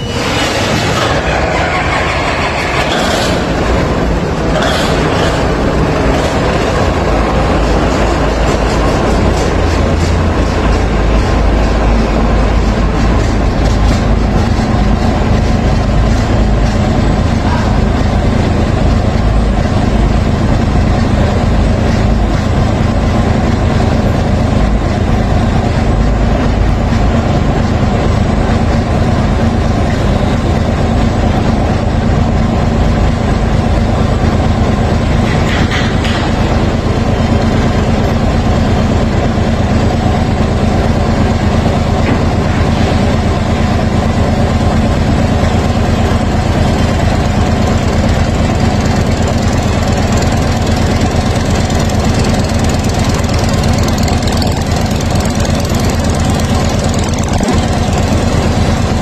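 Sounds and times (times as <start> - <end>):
marine diesel engine running: 0.0 - 59.0.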